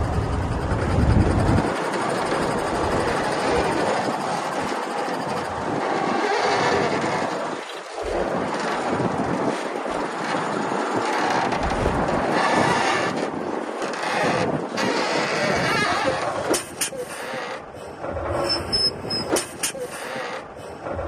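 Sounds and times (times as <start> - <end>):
bulldozer tracks clattering: 0.0 - 21.0.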